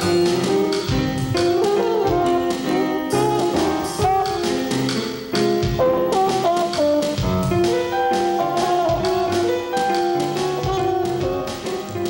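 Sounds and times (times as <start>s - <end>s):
instrumental jazz music: 0.0s - 12.0s.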